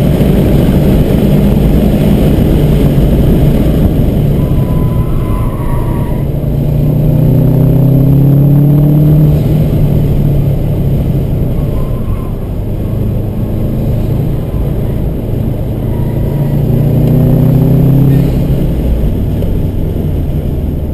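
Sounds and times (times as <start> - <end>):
car engine on track: 0.0 - 20.9.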